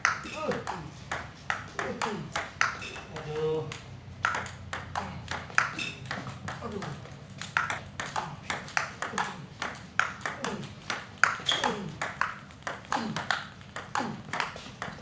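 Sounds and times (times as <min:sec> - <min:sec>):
table tennis ball ticking: 0:00.0 - 0:15.0.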